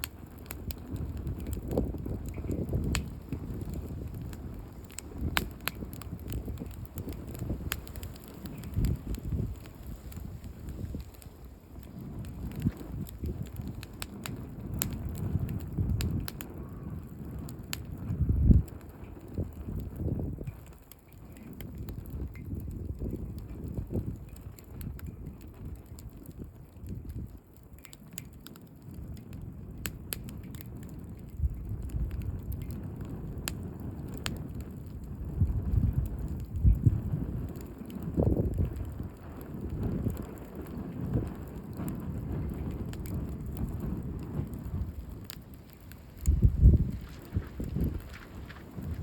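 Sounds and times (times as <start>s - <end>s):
campfire crackling and popping: 0.0s - 49.0s
wind rumbling on microphone: 0.0s - 49.0s.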